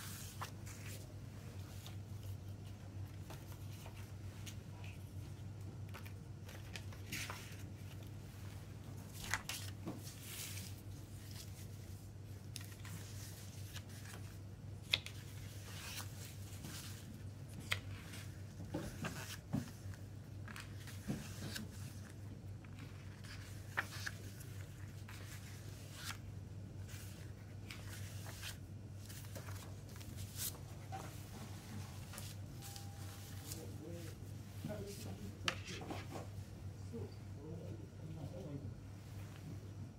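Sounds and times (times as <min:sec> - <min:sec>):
paper pages rustling: 0:00.0 - 0:36.4.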